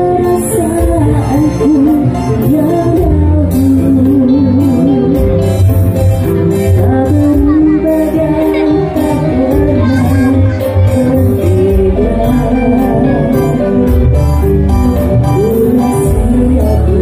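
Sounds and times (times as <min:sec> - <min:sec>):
electric guitar: 0:00.0 - 0:17.0
electronic keyboard: 0:00.0 - 0:17.0
woman singing with vibrato: 0:00.0 - 0:17.0.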